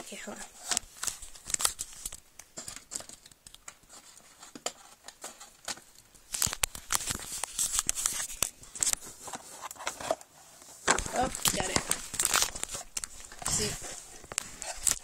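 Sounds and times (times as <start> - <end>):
paint tubes clicking and knocking: 0.6 - 10.2, 10.8 - 15.0.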